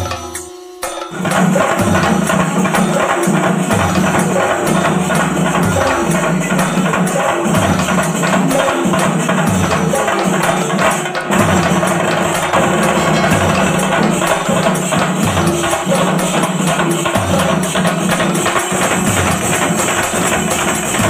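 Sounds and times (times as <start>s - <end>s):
ensemble of drums beaten with sticks: 0.0s - 21.0s.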